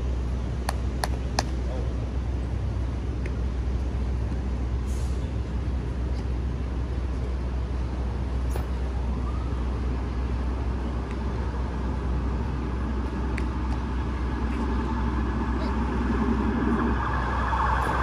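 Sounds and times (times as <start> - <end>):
engine whine: 0.0 - 18.0
street traffic rumble: 0.0 - 18.0.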